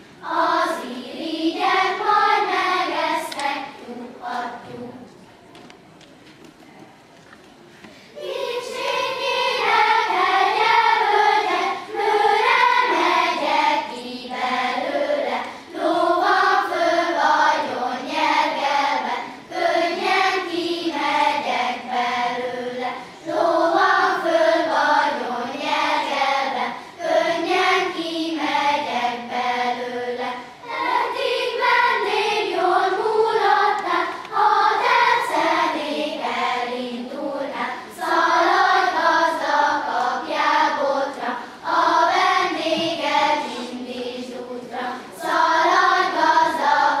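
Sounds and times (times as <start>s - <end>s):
children's choir singing: 0.0s - 5.4s, 8.1s - 47.0s.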